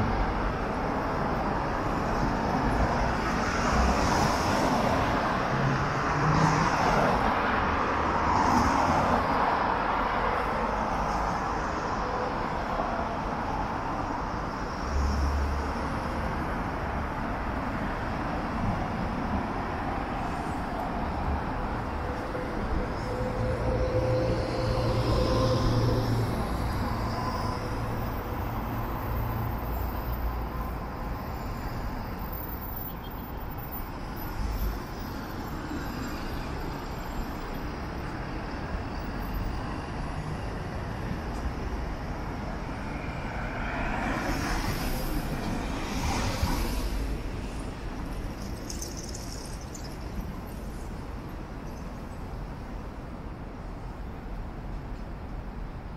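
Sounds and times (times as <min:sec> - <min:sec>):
city traffic noise: 0:00.0 - 0:55.9.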